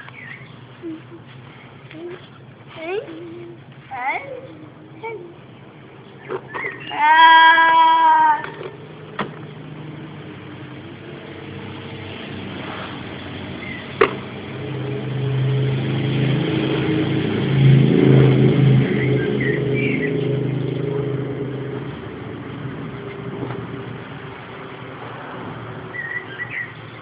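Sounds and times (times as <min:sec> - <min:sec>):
motor engine running: 0:00.0 - 0:27.0.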